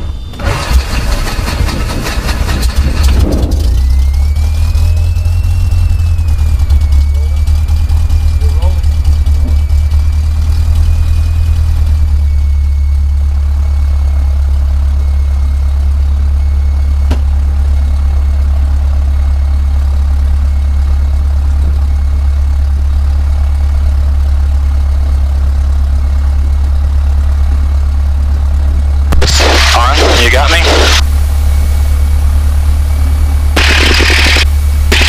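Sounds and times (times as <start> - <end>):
aircraft engine and propeller idling: 0.0 - 35.0.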